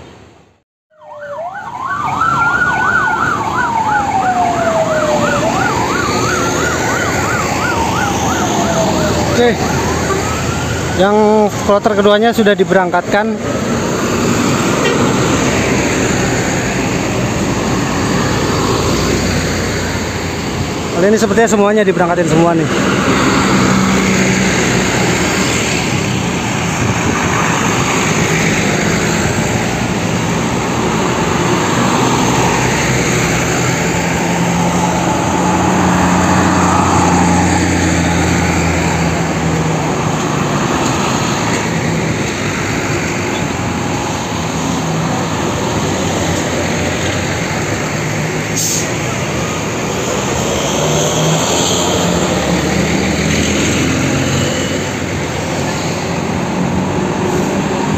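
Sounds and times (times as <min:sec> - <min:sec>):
tour coach diesel engines driving past: 0:01.3 - 0:57.9.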